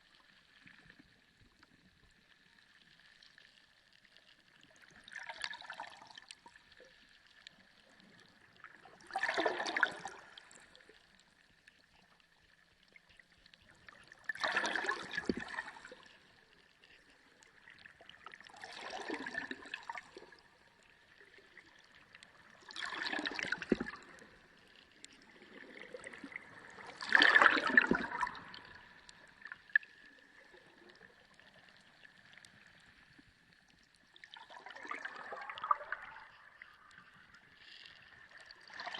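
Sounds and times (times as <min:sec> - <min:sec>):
underwater bubbling water: 0:00.0 - 0:38.9.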